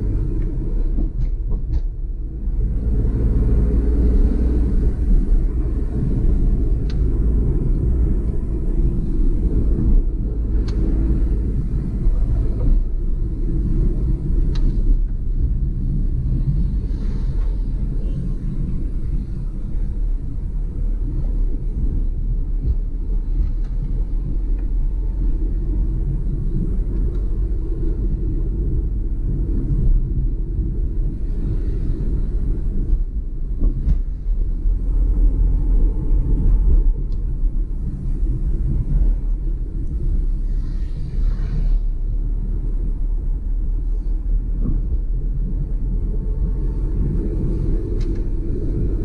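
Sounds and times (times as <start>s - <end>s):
car engine low rumble: 0.0s - 49.0s
tyres on wet road: 0.0s - 49.0s.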